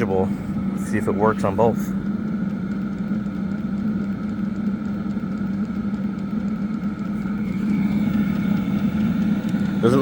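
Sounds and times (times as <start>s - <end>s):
heater fan and burner hum: 0.0s - 10.0s.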